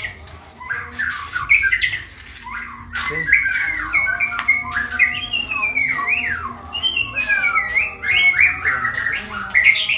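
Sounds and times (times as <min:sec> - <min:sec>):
bird singing whistled phrases: 0:00.0 - 0:09.9.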